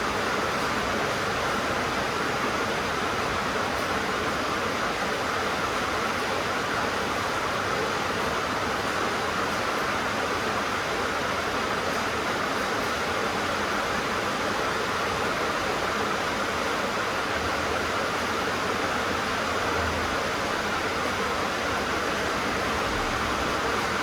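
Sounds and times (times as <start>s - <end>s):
heavy rain on a tin roof: 0.0s - 24.0s.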